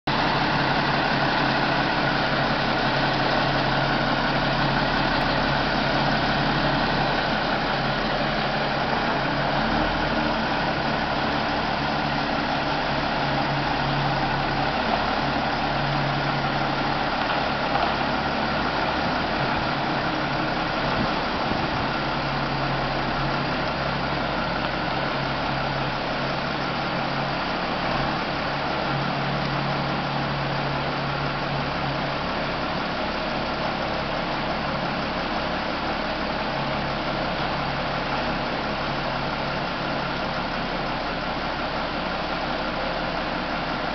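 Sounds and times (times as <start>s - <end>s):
truck diesel engine idling: 0.1s - 43.9s.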